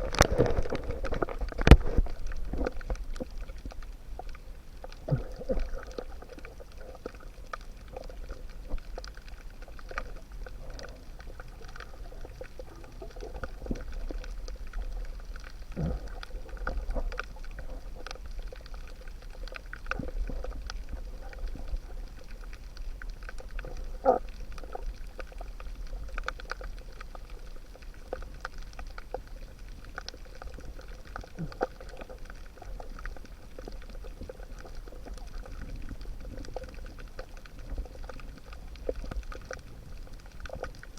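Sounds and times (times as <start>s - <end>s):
bubbling pouring water: 0.0s - 40.9s
low underwater rumble: 0.0s - 40.9s
underwater clicks and crackles: 0.0s - 40.9s.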